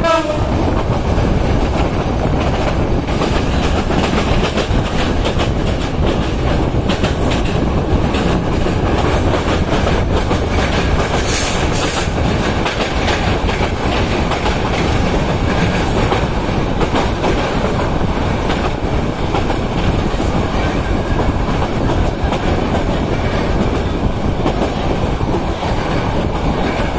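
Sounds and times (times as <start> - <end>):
clickety-clack over rail joints: 0.0 - 26.9
train wheels rumbling on rails: 0.0 - 26.9.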